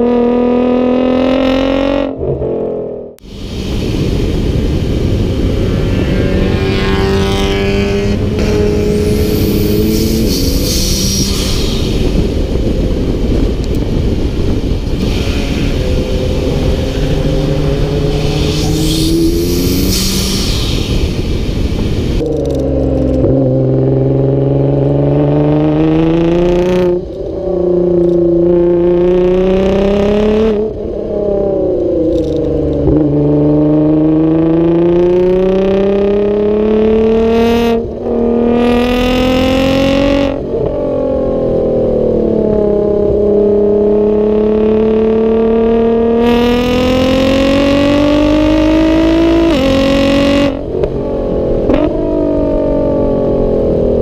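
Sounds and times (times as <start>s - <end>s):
car engine revving through gears: 0.0s - 3.2s, 3.9s - 54.0s.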